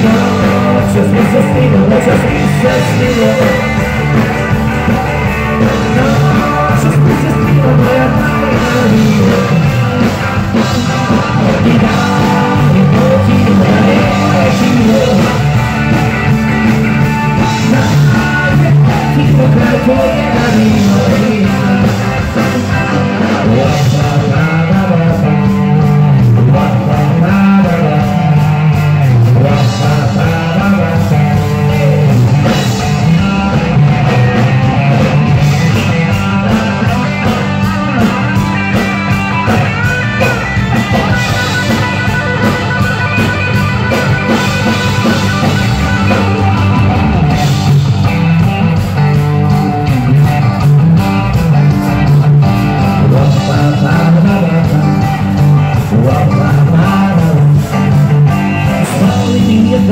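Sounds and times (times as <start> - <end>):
man singing lead vocal: 0.0 - 42.6, 49.8 - 59.9
live rock band playing: 0.0 - 59.9.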